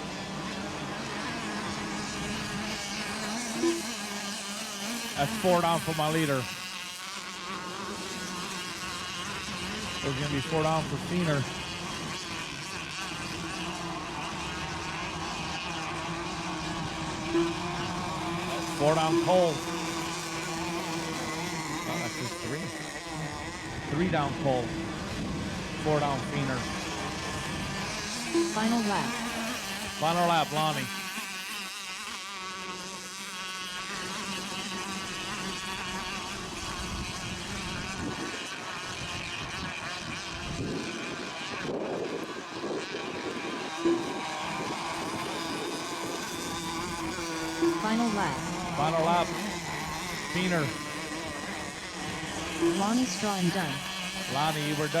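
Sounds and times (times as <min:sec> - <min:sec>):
small boat engines buzzing: 0:00.0 - 0:55.0.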